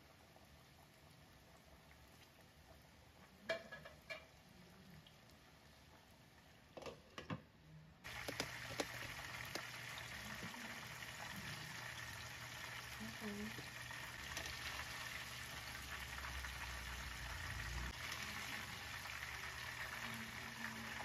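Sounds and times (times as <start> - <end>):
oil sizzling with pops: 0.0 - 21.0.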